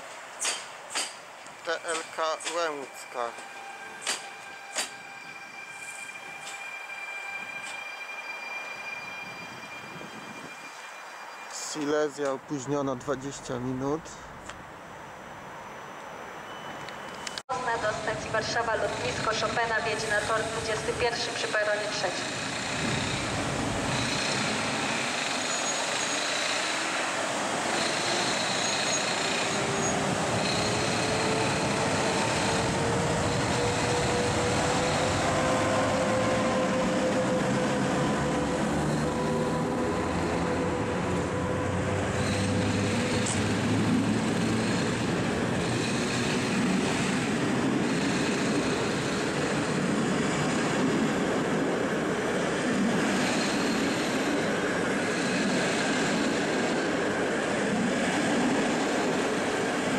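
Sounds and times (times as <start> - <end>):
train rolling on rails: 0.0 - 59.9.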